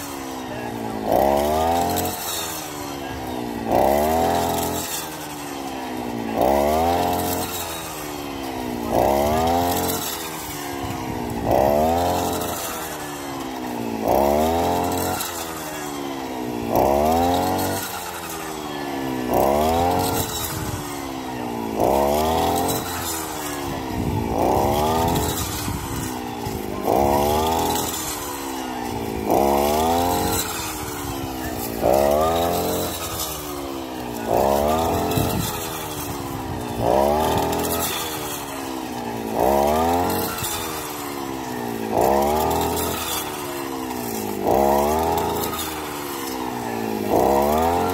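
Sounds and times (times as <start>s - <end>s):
brush cutter engine revving: 0.0s - 47.9s.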